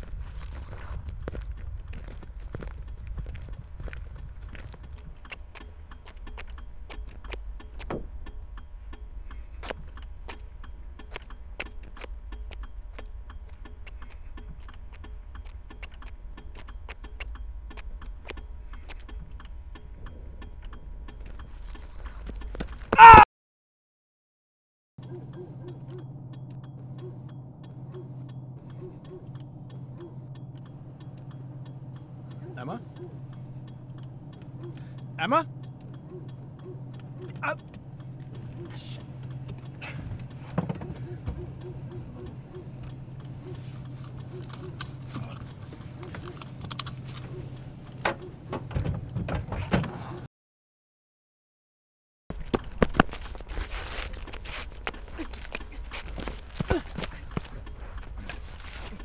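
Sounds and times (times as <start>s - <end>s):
hazard light flasher ticking: 0.0s - 22.9s, 25.0s - 48.5s, 54.1s - 59.0s
car engine idling: 0.0s - 23.0s, 25.0s - 49.2s, 52.3s - 59.0s
low steady rumble: 0.0s - 23.0s, 25.0s - 49.4s, 52.3s - 59.0s.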